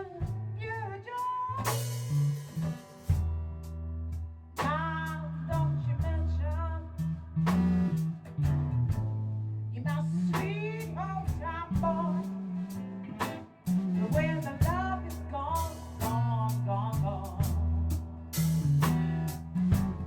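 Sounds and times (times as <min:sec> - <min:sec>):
drum kit strokes: 0:00.0 - 0:20.0
electric bass low notes: 0:00.0 - 0:20.0.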